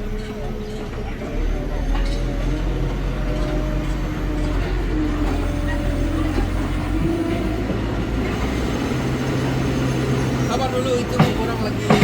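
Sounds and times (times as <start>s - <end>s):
heavy diesel engine humming: 0.0s - 12.0s.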